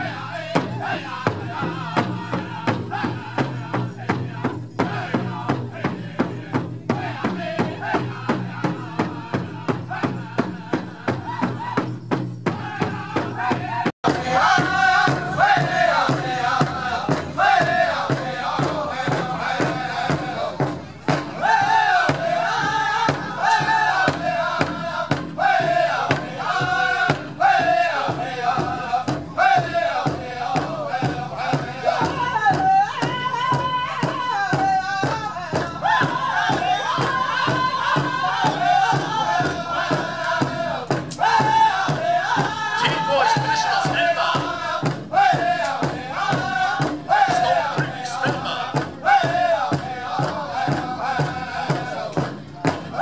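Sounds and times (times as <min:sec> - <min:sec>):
men singing high lines: 0:00.0 - 0:53.0
powwow drum beat: 0:00.0 - 0:53.0.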